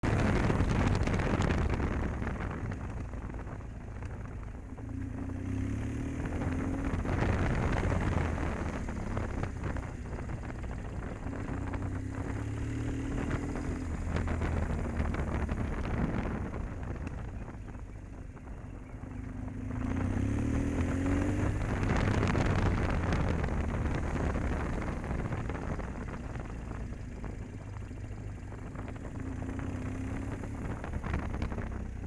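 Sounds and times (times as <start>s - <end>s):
motorcycle engine revving: 0.0s - 32.0s
wind noise on microphone: 0.0s - 32.0s.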